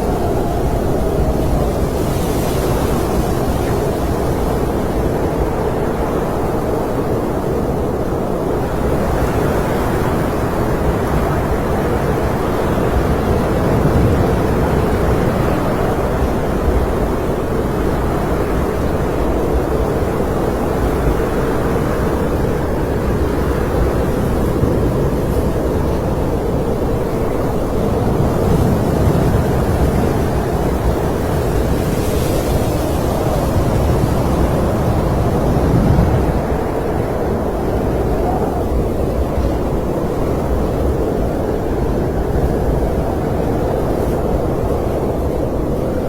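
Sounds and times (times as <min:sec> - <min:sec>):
deep rushing wind: 0:00.0 - 0:46.0.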